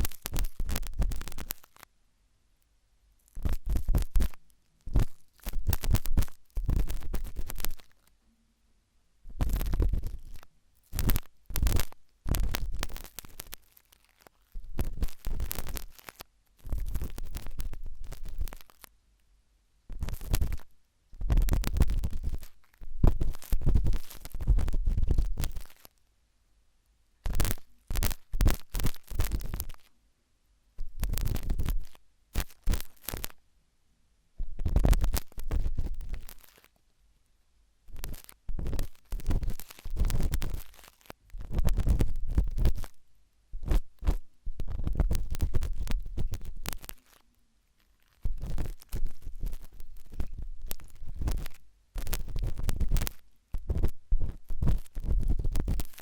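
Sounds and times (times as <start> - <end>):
toothpick scraping in an ear: 0.0 - 1.8, 3.2 - 8.1, 9.3 - 18.9, 19.9 - 25.9, 27.2 - 29.9, 30.9 - 33.4, 34.6 - 36.7, 37.9 - 43.0, 43.6 - 47.2, 48.0 - 56.0.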